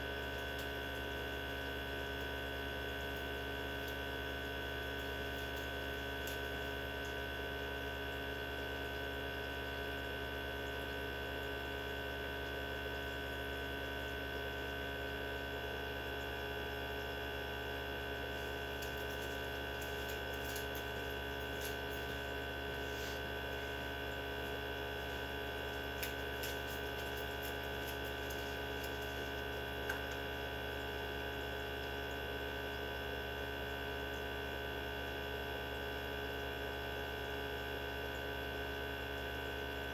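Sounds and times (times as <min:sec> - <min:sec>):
centrifuge motor hum: 0:00.0 - 0:35.2.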